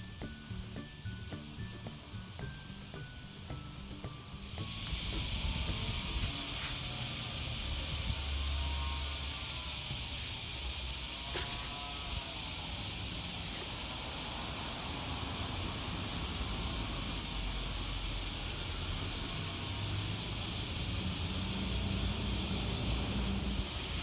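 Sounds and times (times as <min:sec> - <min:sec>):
low drone: 0:00.0 - 0:24.0
road and tyre noise: 0:04.4 - 0:24.0.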